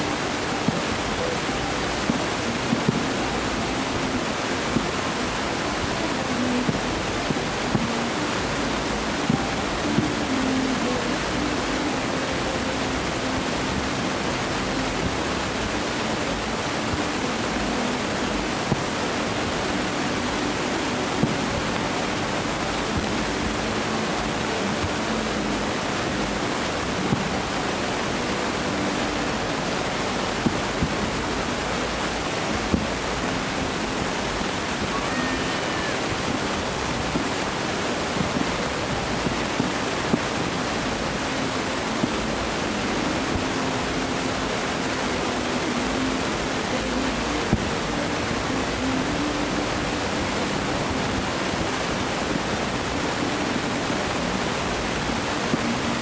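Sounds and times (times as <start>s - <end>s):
surf rushing: 0.0s - 56.0s.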